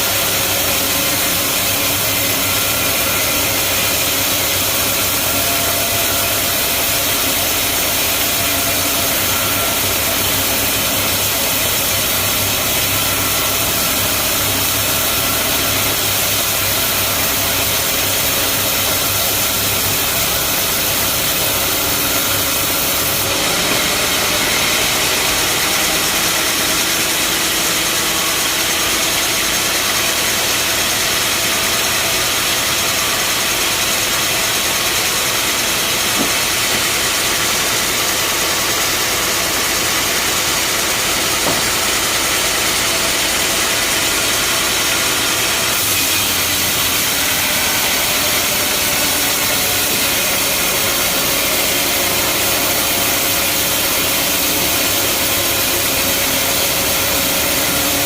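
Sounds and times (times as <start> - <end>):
bandsaw sawmill running: 0.0 - 58.0.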